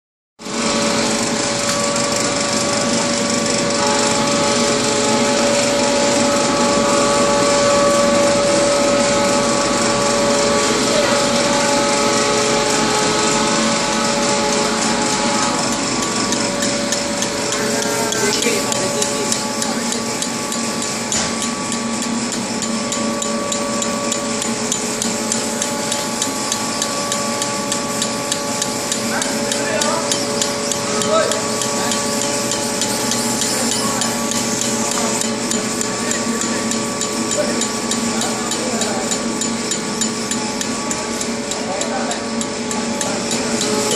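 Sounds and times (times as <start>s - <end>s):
extrusion machine running: 0.4s - 43.9s
electric motor whine: 0.5s - 39.3s.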